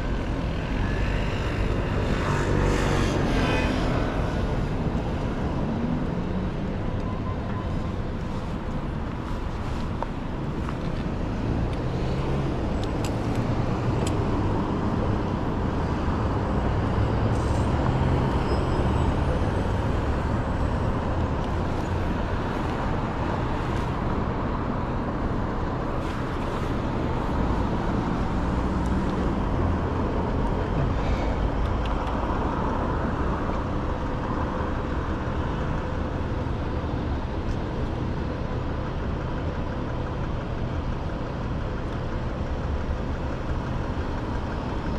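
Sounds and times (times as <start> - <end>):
passing cars rumbling: 0.0 - 7.0, 7.6 - 44.9.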